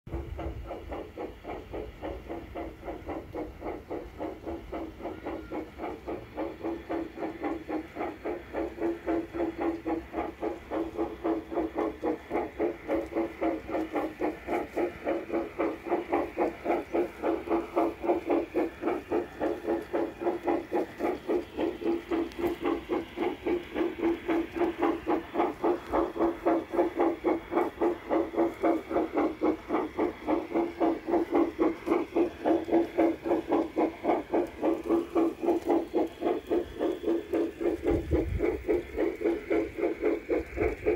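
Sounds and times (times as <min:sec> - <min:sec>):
model steam locomotive chuffing: 0:00.1 - 0:40.9.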